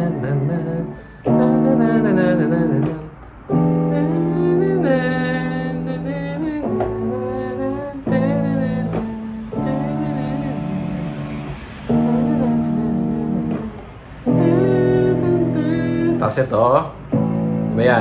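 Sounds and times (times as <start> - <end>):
synthesizer chords: 0.0 - 16.3.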